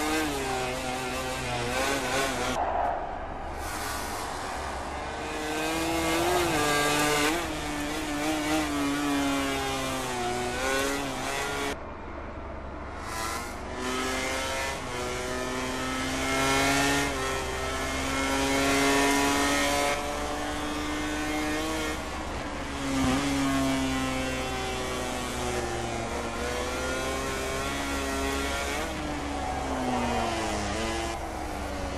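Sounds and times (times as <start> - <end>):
racing motorcycle engine: 0.0 - 31.9.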